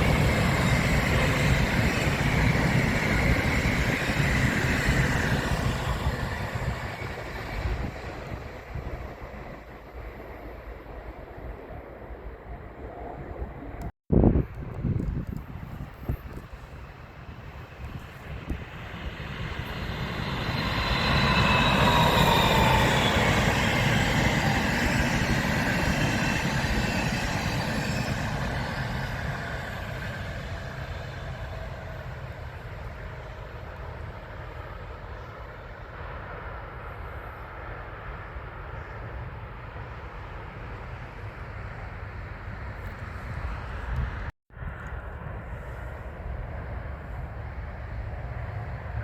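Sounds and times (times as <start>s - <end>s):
train passing: 0.0s - 49.0s.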